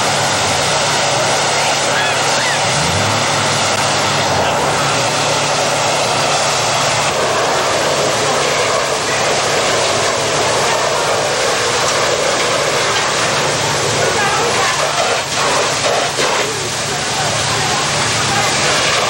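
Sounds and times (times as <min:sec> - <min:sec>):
fire engines droning: 0:00.0 - 0:19.0
rushing hiss of water streams: 0:00.0 - 0:19.0.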